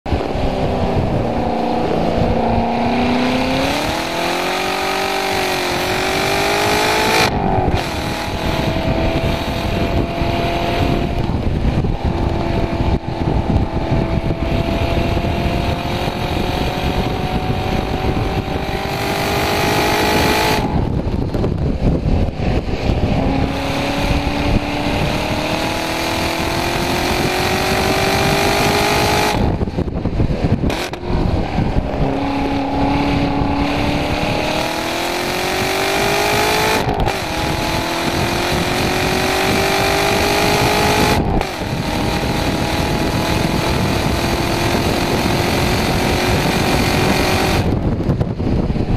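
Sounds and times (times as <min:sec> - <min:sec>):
car engine accelerating hard: 0:00.0 - 0:48.9
wind and tyre noise: 0:00.0 - 0:48.9.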